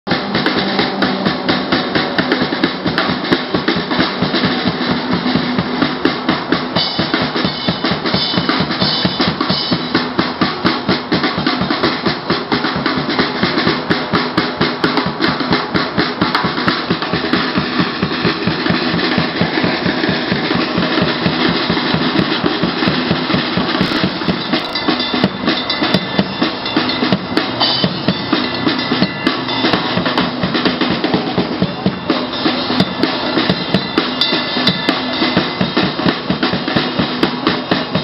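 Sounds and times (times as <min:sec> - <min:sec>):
drum kit playing a driving beat: 0:00.1 - 0:38.0.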